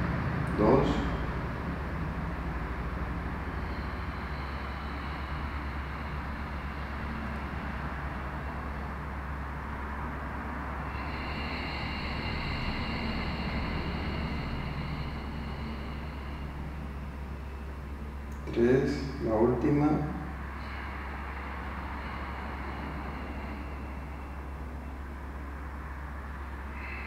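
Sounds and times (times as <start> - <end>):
high whining tone: 0.0 - 27.0
low mechanical rumble and hum: 0.0 - 27.0.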